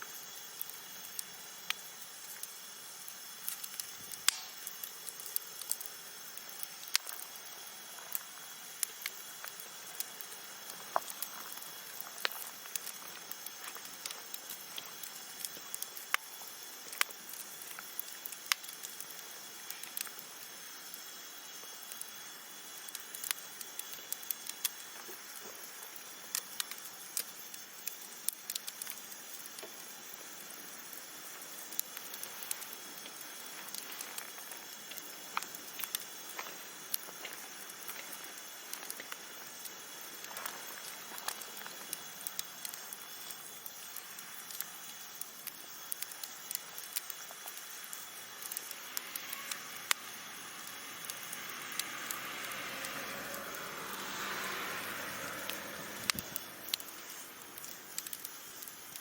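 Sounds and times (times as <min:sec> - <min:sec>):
campfire crackles and pops: 0:00.0 - 0:59.0
campfire hissing: 0:00.0 - 0:59.0.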